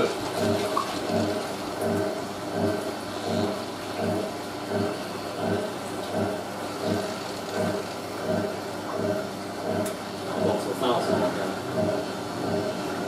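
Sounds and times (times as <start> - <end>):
washing machine drum turning: 0.0 - 13.0.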